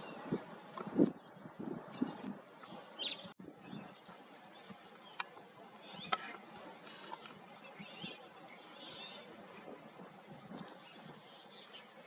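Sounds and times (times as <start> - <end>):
small birds chirping: 1.0 - 10.0, 10.7 - 12.0.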